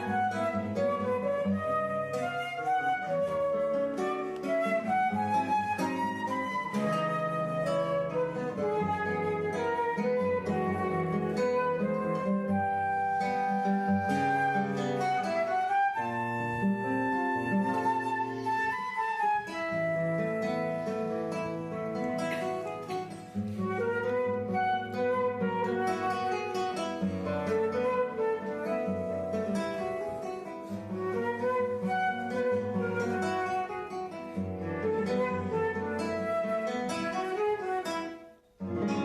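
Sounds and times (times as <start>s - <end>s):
acoustic guitar picking: 0.0s - 39.0s
flute-like melody: 0.0s - 39.0s.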